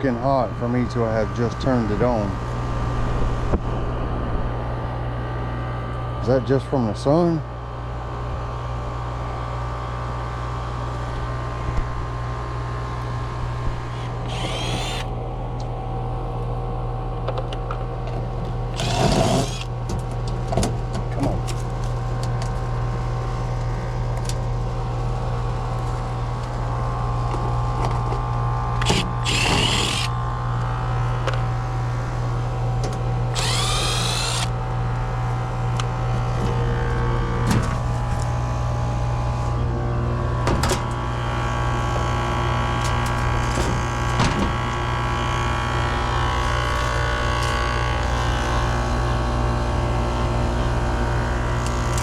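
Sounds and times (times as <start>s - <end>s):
air conditioner humming: 0.0s - 17.2s, 17.9s - 22.1s, 22.9s - 51.6s.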